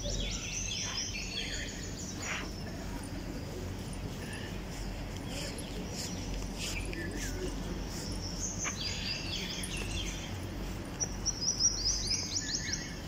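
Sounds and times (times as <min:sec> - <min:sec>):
birds chirping: 0:00.0 - 0:13.0
low background noise: 0:00.0 - 0:13.0.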